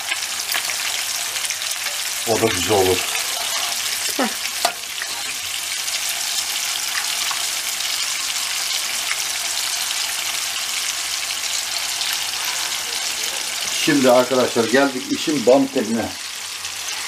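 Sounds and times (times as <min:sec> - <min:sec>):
patties sizzling in oil: 0:00.0 - 0:17.0.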